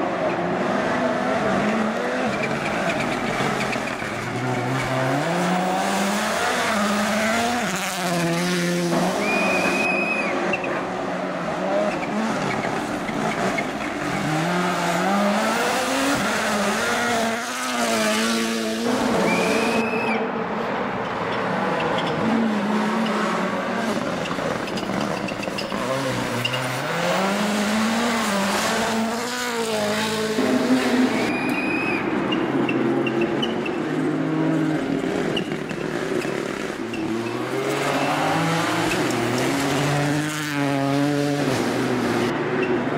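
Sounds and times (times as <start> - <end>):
rally car engine revving: 0.0 - 20.1, 21.1 - 42.9.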